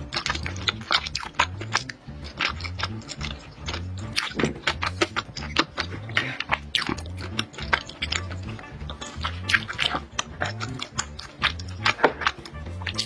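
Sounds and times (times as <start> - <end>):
background music with bass beat: 0.0 - 13.0
wet chewing mouth sounds: 0.0 - 13.0.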